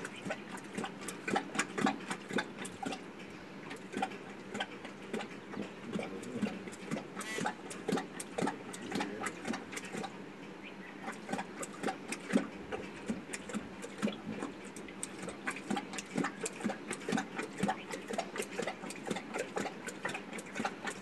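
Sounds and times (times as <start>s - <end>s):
lion lapping water: 0.0s - 21.0s.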